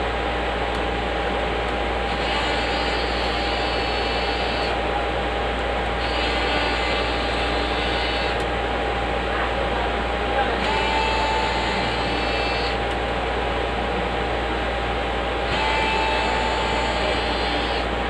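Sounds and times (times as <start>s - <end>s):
faint steady whine: 0.0s - 18.0s.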